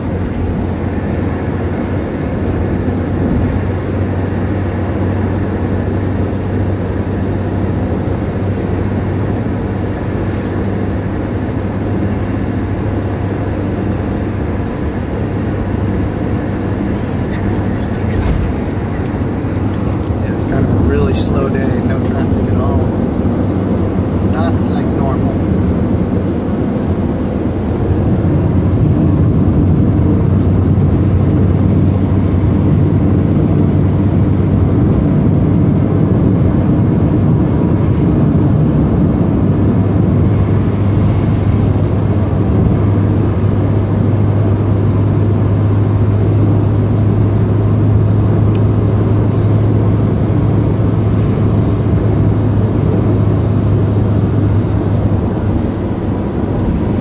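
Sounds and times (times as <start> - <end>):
car road and engine noise: 0.0 - 57.0
low hum: 0.0 - 57.0.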